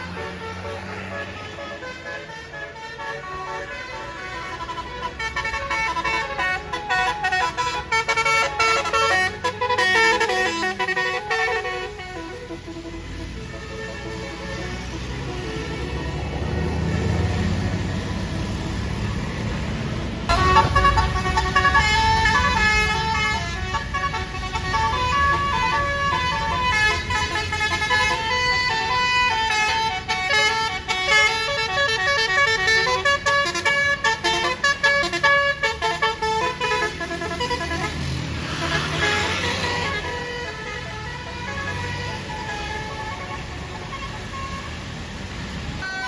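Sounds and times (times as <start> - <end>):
musical bus horn tune: 0.0 - 18.8, 20.3 - 45.0, 45.8 - 46.0
bus engine running: 0.0 - 46.0.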